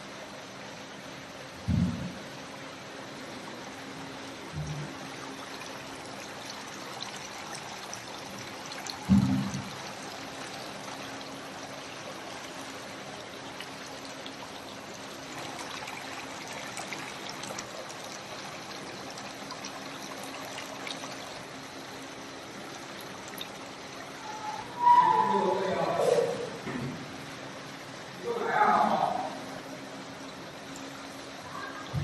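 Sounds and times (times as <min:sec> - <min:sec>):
faint steady hum: 0:00.0 - 0:32.0
fountain water trickling and splashing: 0:02.2 - 0:26.6, 0:27.3 - 0:32.0.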